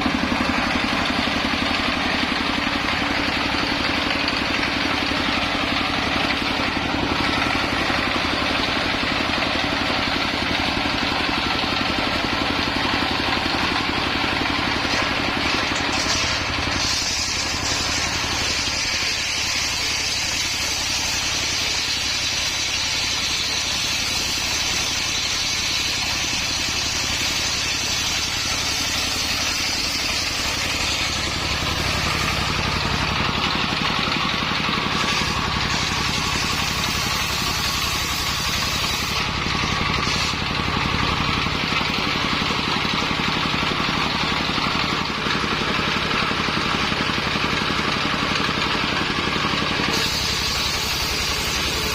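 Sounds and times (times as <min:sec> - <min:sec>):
circular sawmill sawing wood: 0:00.0 - 0:51.9.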